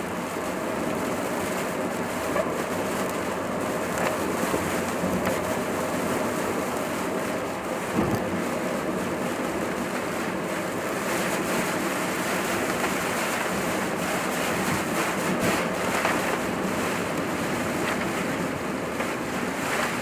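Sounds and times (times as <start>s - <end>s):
tyres on a wet road: 0.0s - 20.0s
wind against a car: 0.0s - 20.0s.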